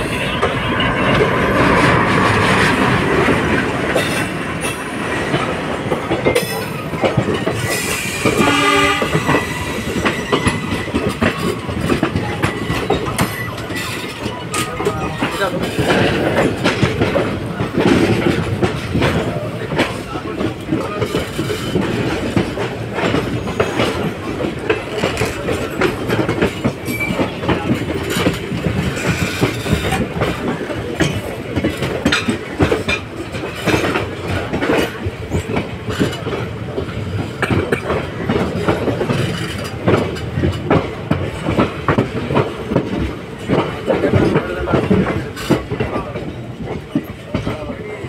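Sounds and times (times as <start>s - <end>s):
train coaches rumbling past: 0.0s - 48.0s
wheels clattering on rails: 0.0s - 48.0s.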